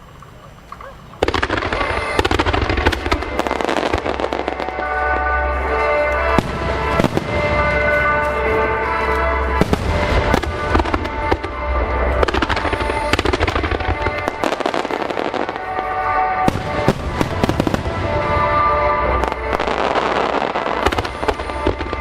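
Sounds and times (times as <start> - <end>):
fireworks booming and crackling: 0.1 - 22.0
music playing: 1.2 - 22.0.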